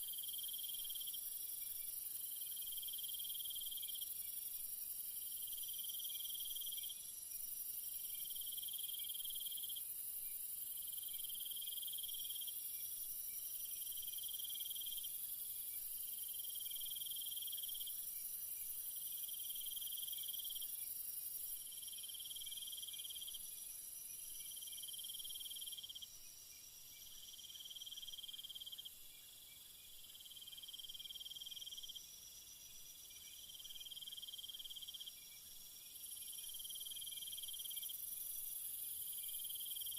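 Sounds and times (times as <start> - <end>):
insect trill: 0.0 - 39.9
insects hissing and droning: 0.0 - 39.9.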